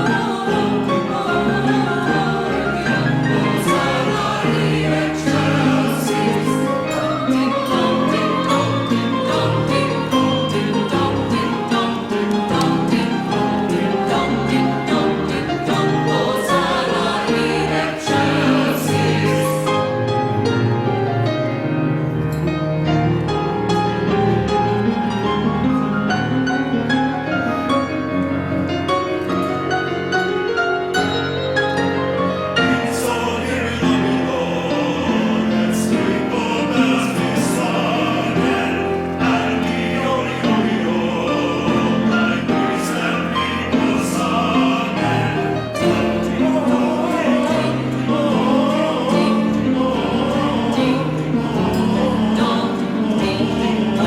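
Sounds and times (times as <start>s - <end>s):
church choir singing: 0.0s - 54.0s
instrumental accompaniment: 0.0s - 54.0s.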